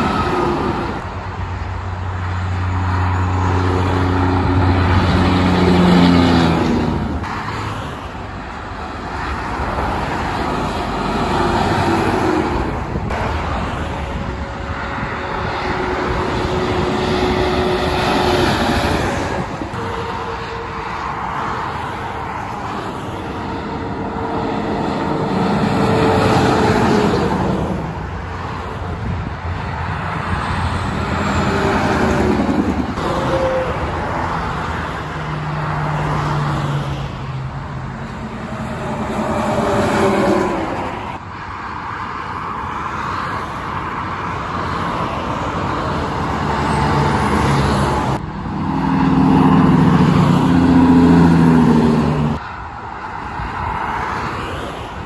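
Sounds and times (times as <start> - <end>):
highway tyre roar: 0.0 - 55.0
semi truck engines passing: 0.0 - 55.0.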